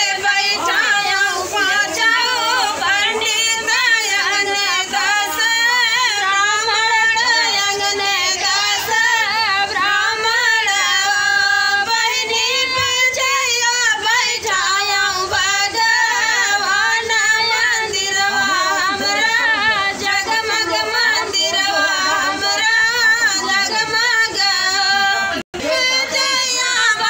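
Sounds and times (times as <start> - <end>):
women singing folk song: 0.0 - 27.0.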